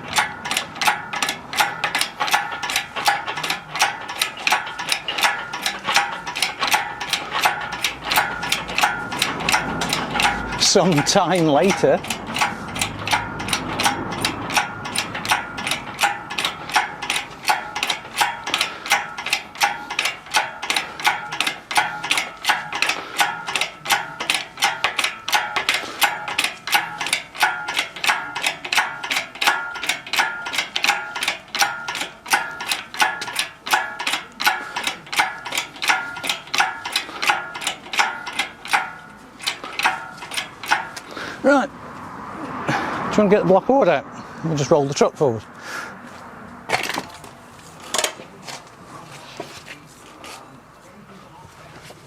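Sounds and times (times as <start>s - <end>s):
clock ticking: 0.0s - 41.7s.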